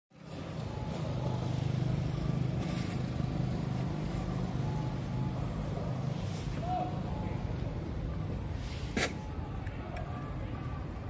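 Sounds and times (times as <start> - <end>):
low engine hum: 0.1 - 11.0.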